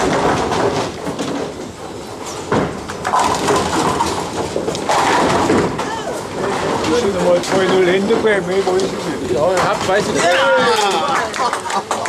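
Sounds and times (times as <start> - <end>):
loud knocks: 0.0 - 11.2
bowling balls rolling: 0.0 - 12.0.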